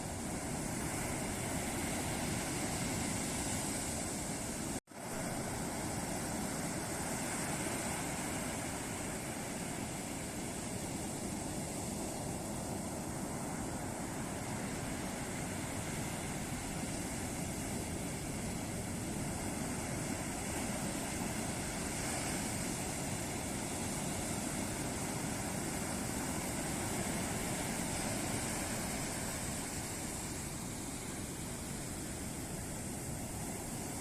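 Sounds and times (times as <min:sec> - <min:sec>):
ocean waves breaking on beach: 0:00.0 - 0:34.0.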